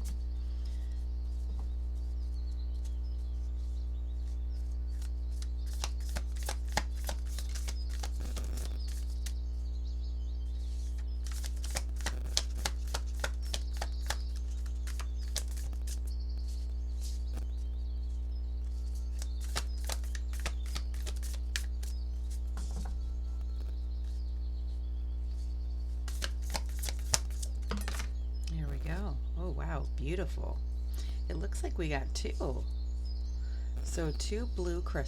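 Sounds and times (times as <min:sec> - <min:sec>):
electrical hum: 0:00.0 - 0:35.0.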